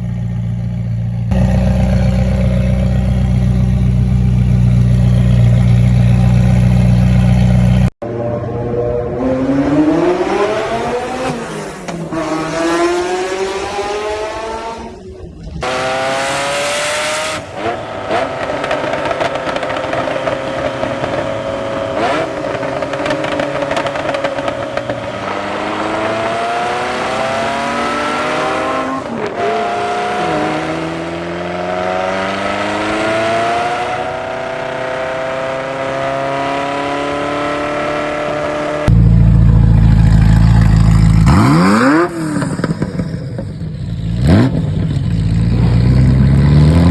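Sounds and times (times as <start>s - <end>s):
sports car engine accelerating: 1.1s - 46.9s.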